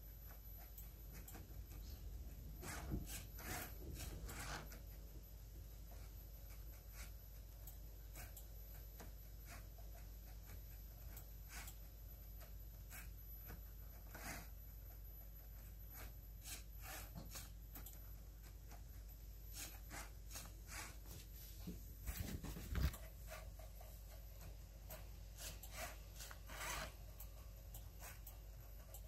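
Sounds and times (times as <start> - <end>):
marker scratching on paper: 0.3 - 5.0, 5.8 - 27.1, 27.8 - 29.0.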